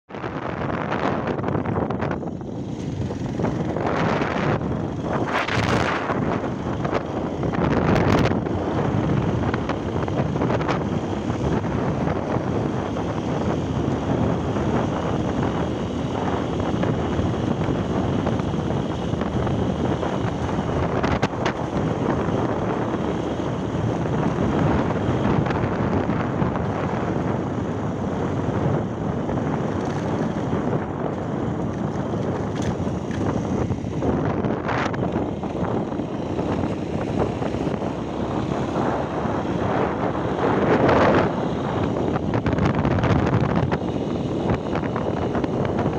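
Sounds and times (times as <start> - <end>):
motorcycle running noise: 0.1 - 45.9
wind buffeting microphone: 0.1 - 45.9.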